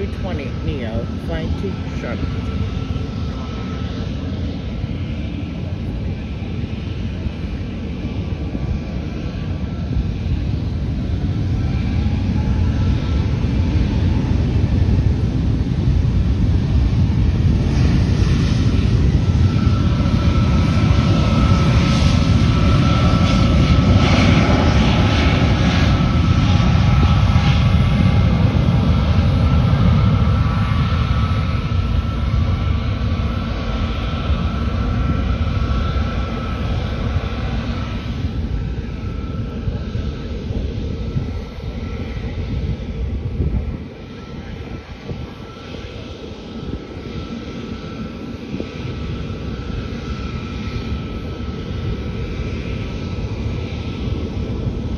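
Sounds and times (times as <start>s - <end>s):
jet airliner taking off: 0.0s - 54.9s.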